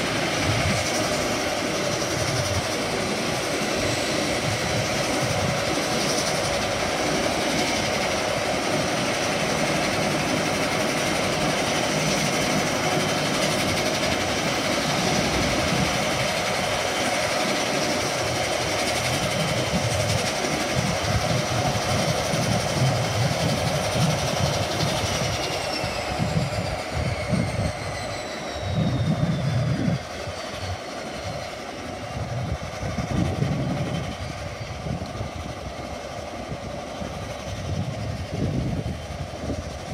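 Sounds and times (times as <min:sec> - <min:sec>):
turboprop engine drone and whine: 0:00.0 - 0:39.9.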